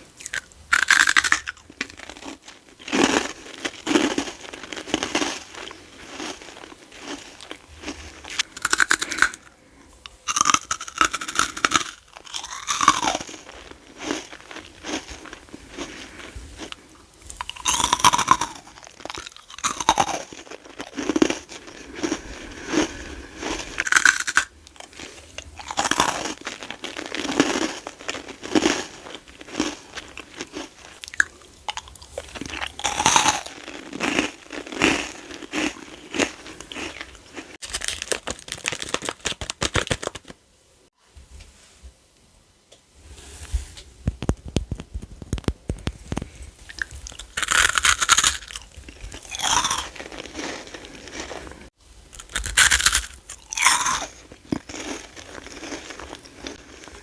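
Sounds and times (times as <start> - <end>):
crunchy candy chewing: 0.2 - 40.3, 45.2 - 57.0.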